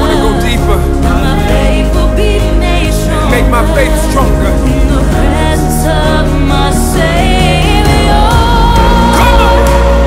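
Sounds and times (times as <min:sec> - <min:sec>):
background music melody: 0:00.0 - 0:10.0
steady low bass: 0:00.0 - 0:10.0.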